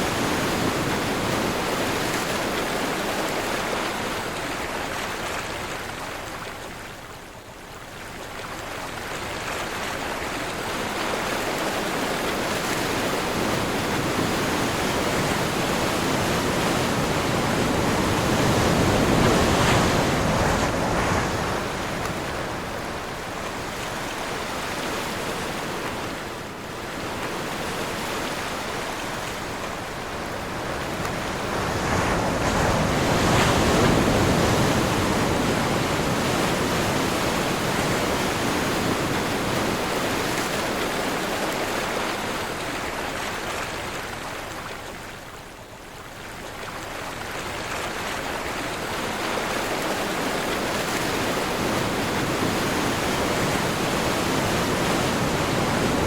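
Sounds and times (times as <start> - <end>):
sea waves breaking ashore: 0.0 - 6.7, 8.5 - 45.3, 46.1 - 56.0
wind: 0.0 - 56.0.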